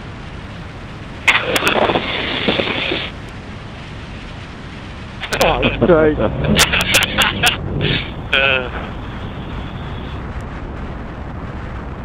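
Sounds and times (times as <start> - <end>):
muffled burst with sharp clicks: 0.0 - 12.0
wind and road noise rushing: 0.0 - 12.0.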